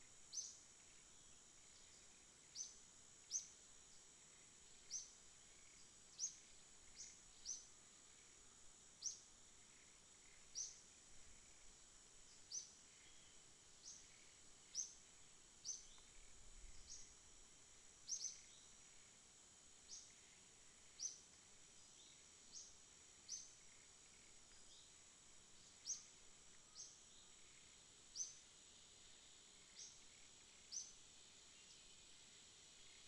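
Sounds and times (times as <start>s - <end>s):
insect chirps: 0.0s - 33.0s
insects droning: 0.0s - 33.0s.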